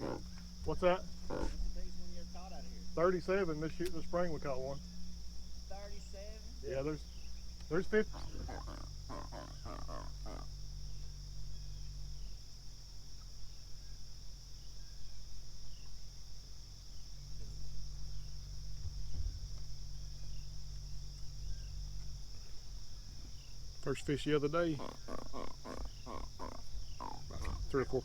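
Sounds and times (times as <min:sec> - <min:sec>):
insect chorus buzzing: 0:00.0 - 0:28.0
low steady hum: 0:00.0 - 0:28.0.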